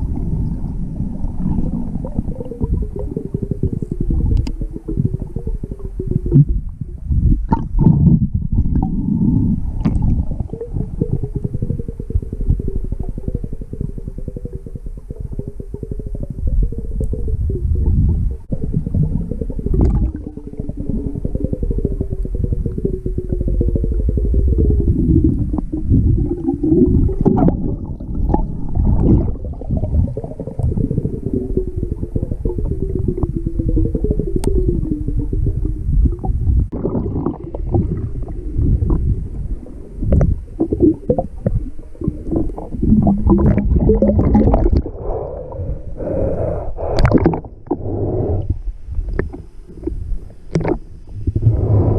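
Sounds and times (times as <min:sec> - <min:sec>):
underwater rumble: 0:00.0 - 0:51.9.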